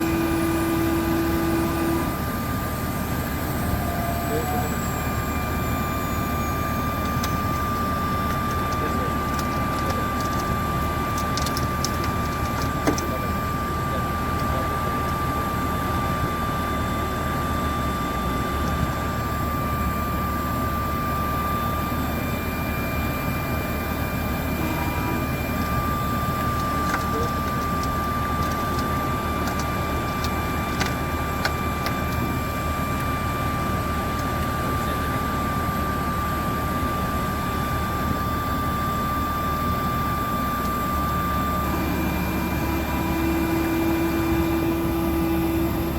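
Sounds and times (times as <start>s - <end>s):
aircraft rumble: 0.0s - 45.9s
high steady whine: 0.0s - 45.9s.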